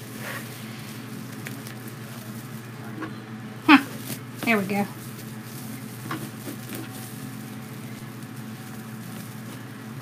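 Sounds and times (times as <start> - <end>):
foil mesh rustling and crinkling: 0.0 - 3.0, 3.8 - 10.0
steady low hum: 0.0 - 10.0.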